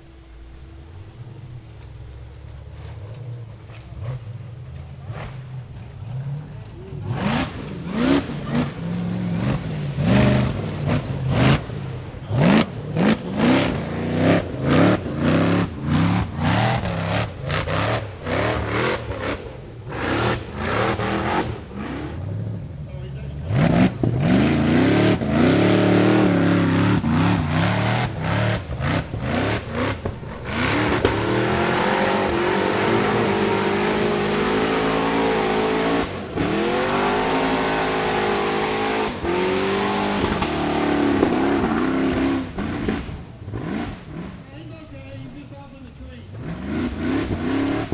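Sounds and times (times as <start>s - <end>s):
buggy engine revving: 0.0s - 47.9s.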